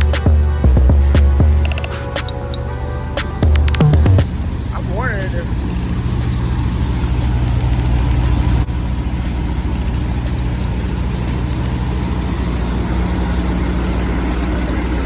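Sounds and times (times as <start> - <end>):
truck diesel engine idling: 2.4 - 15.0.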